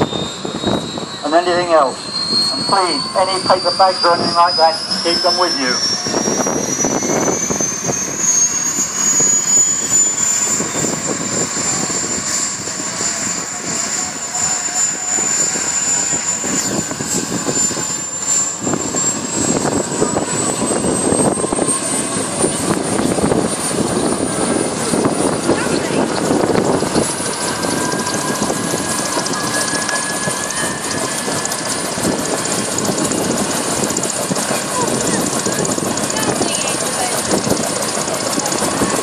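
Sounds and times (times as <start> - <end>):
rushing engine and rotor noise: 0.0 - 39.0
turbine engine whine rising: 0.0 - 39.0.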